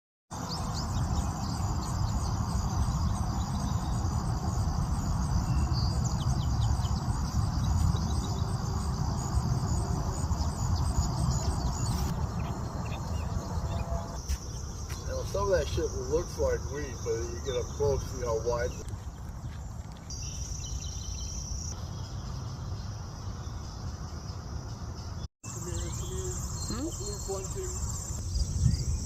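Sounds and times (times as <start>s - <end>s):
crickets chirring: 0.4s - 29.0s.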